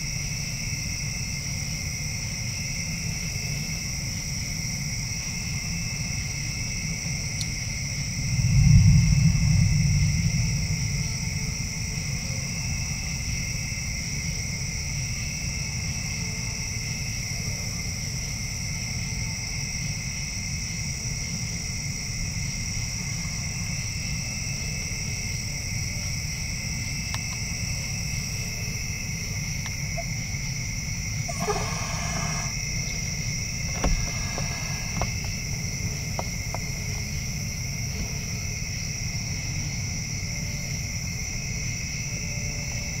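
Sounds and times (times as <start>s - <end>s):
insects trilling: 0.0s - 43.0s
low steady rumble: 0.0s - 43.0s.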